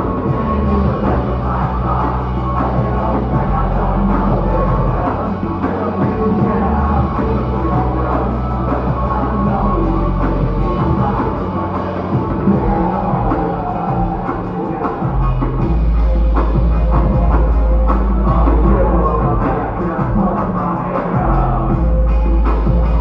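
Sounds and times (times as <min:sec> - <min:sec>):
deep bass notes: 0:00.0 - 0:23.0
drums: 0:00.0 - 0:23.0.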